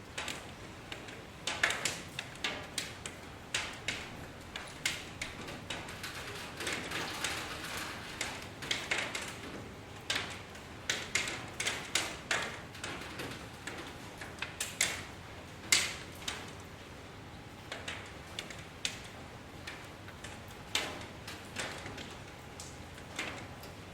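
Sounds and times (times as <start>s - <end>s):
raindrops tapping and dripping: 0.0s - 16.8s, 17.6s - 23.9s
soft steady rain hiss: 0.0s - 23.9s.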